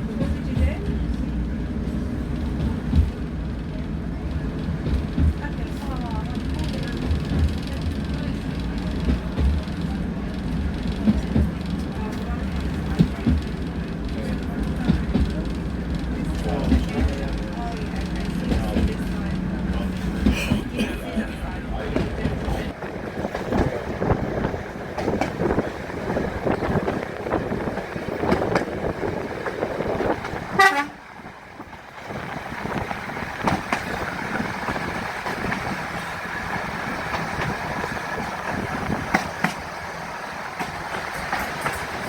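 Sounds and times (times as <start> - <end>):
model trains running: 0.0 - 42.0
people milling about: 0.0 - 42.0.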